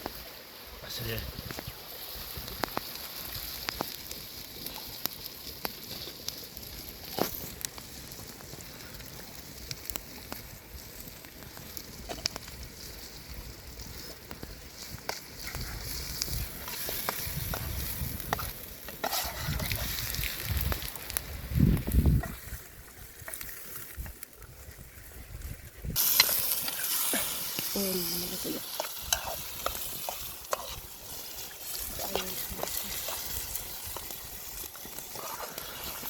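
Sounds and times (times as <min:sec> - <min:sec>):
fire crackling and popping: 0:00.0 - 0:36.0
food sizzling in a pan: 0:00.0 - 0:36.0.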